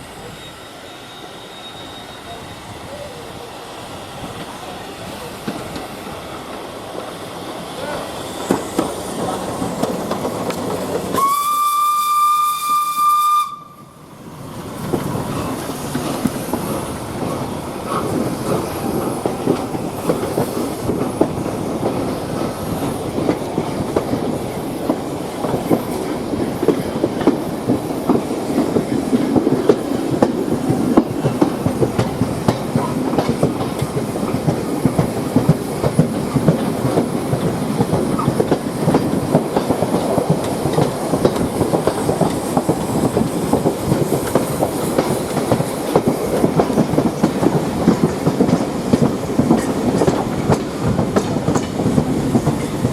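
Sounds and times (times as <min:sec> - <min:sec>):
train rattling on rails: 0:00.0 - 0:52.9.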